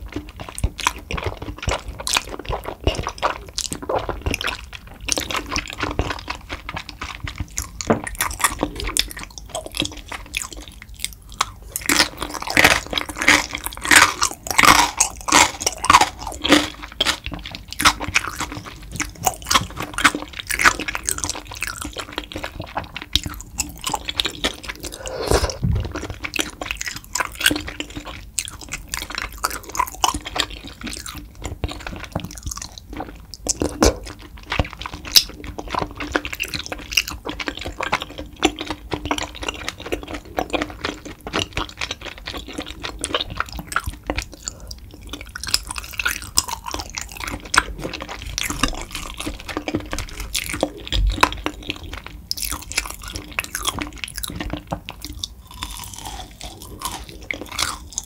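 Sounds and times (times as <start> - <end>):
wet sticky chewing: 0.0 - 58.0.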